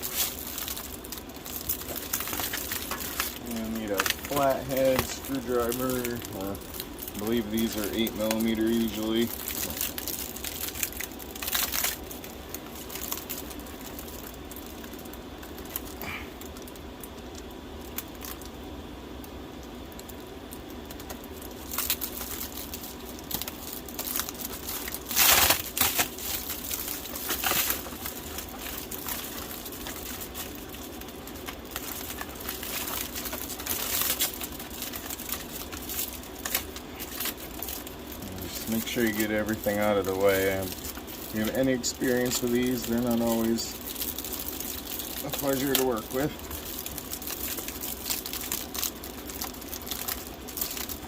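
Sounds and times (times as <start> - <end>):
foil ducting crinkling: 0.0 - 51.0.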